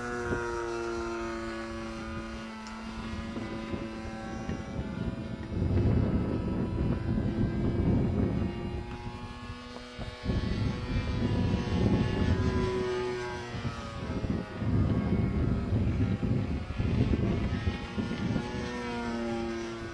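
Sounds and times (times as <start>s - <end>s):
propeller plane engine droning: 0.0s - 19.9s.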